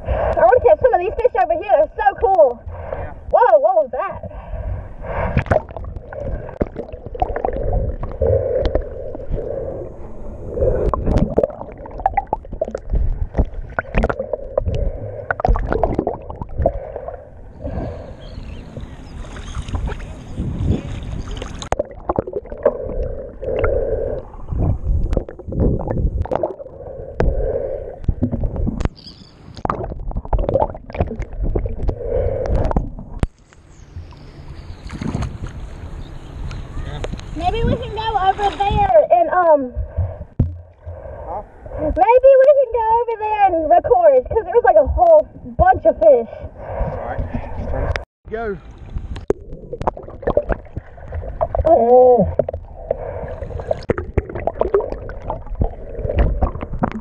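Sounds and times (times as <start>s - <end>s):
water sloshing and gurgling: 0.0s - 36.4s, 37.0s - 57.0s.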